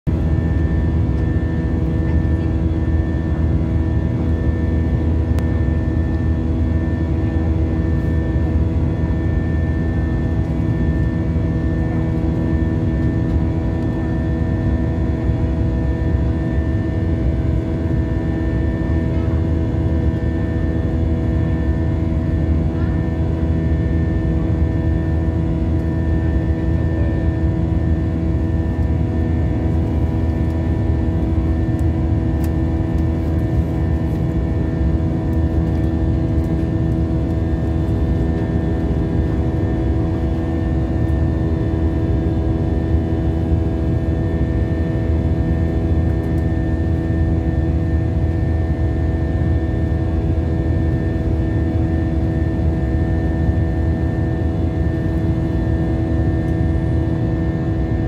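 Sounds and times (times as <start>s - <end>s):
airliner cabin rumble: 0.1s - 48.8s
constant engine tones: 0.1s - 58.0s.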